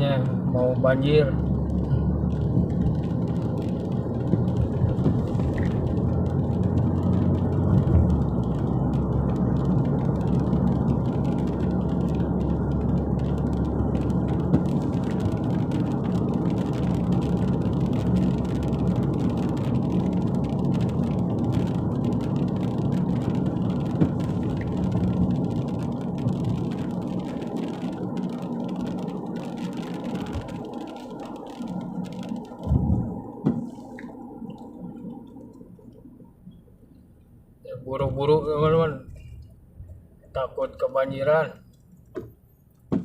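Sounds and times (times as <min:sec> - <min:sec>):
vehicle engine and road noise: 0:00.0 - 0:43.0.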